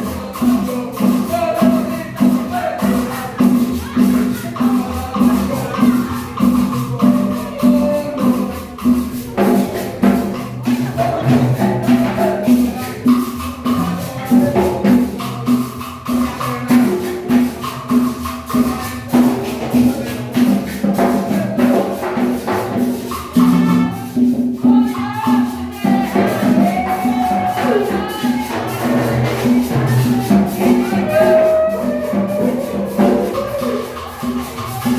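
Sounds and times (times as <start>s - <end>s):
shaker percussion: 0.0s - 34.9s
upbeat music with quick beat: 0.0s - 34.9s.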